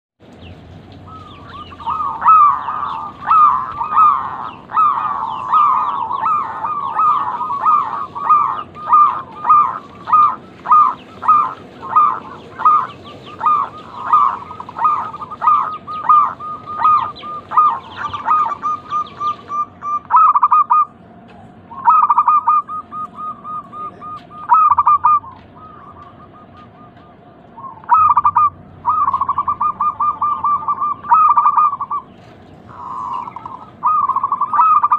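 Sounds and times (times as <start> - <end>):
doves cooing: 0.8 - 34.9.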